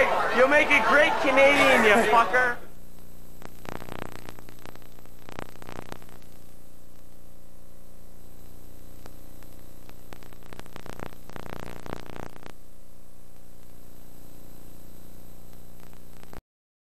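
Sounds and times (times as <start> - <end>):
crackling static: 0.0 - 16.4
electrical hum and hiss: 0.0 - 16.4.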